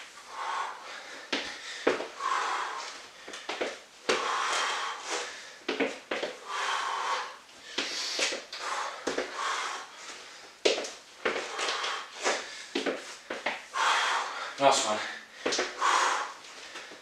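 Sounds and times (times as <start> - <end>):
person breathing heavily: 0.0 - 17.0.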